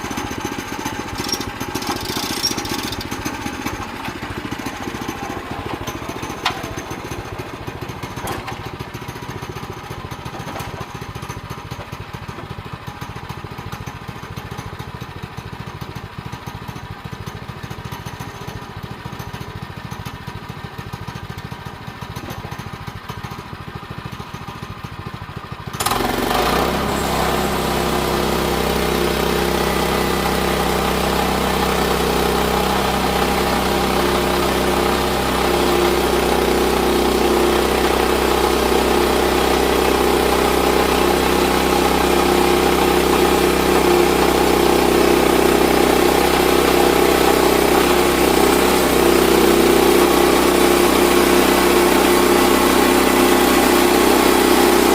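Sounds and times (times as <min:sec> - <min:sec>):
engine idling with low hum: 0:00.0 - 0:54.9
small gasoline engine running: 0:00.0 - 0:54.9.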